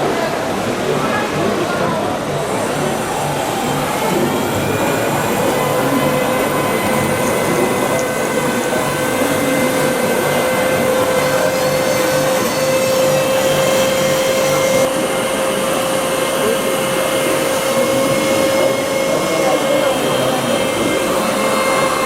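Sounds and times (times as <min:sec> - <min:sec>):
busy hall noise: 0:00.0 - 0:22.0
small electric motor whine: 0:02.2 - 0:22.0.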